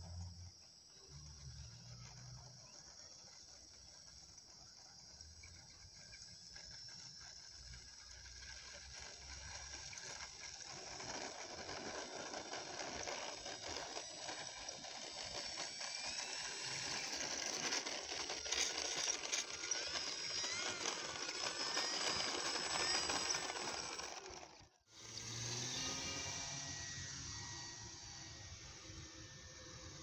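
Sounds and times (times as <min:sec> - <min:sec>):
model plane motor and propeller: 0:00.0 - 0:30.0.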